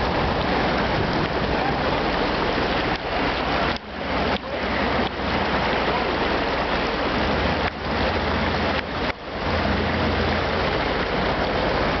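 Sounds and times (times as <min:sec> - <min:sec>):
truck engine rumble: 0:00.0 - 0:12.0
water rushing over rocks: 0:00.0 - 0:12.0.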